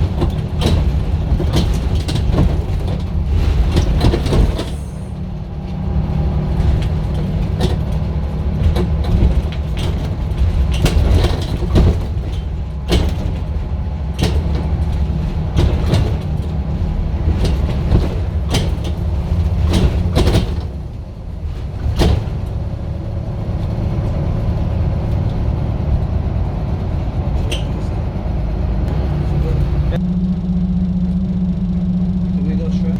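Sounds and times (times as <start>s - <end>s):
sharp rattles and knocks: 0.0s - 30.0s
bus engine droning: 0.0s - 32.9s.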